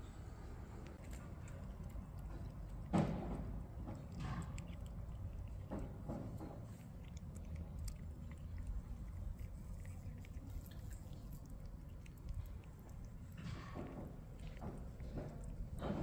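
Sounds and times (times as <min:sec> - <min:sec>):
steady low rumble: 0:00.0 - 0:15.9
cat crunching dry kibble: 0:01.0 - 0:16.0.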